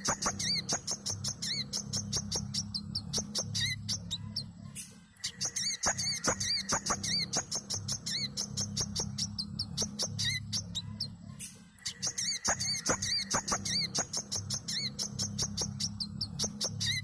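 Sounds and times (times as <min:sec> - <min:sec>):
sunbird chirping and whistling: 0:00.0 - 0:11.2, 0:11.8 - 0:17.0
steady low hum: 0:00.0 - 0:17.0.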